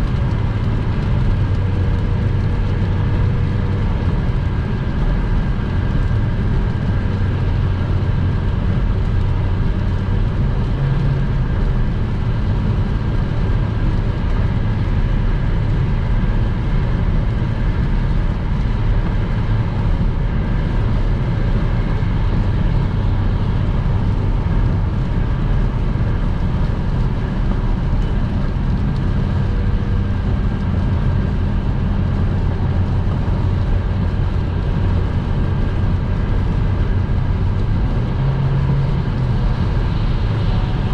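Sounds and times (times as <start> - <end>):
car driving on wet road: 0.0 - 40.9.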